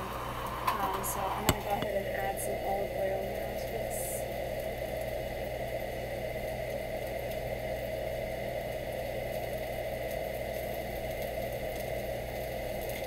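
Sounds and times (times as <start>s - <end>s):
mechanical hum and whir: 0.0s - 13.0s.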